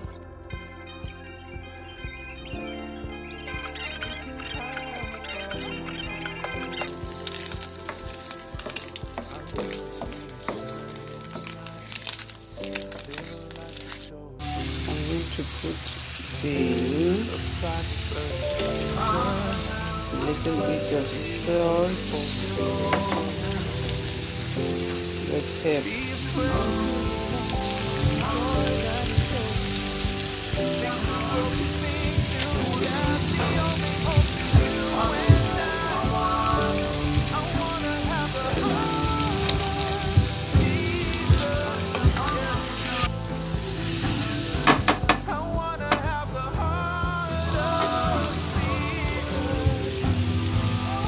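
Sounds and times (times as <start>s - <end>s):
background music: 0.0s - 51.0s
livers sizzling in hot oil: 1.3s - 46.0s, 47.2s - 51.0s.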